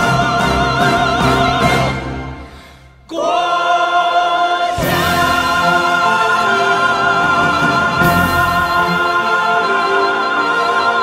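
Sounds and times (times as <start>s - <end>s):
choir singing held notes: 0.0s - 2.4s, 3.1s - 11.0s
musical accompaniment: 0.0s - 3.0s, 4.6s - 11.0s.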